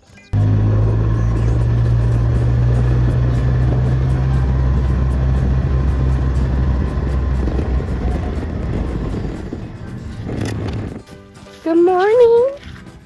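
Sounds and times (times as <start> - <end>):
vehicle engine humming: 0.4 - 11.0.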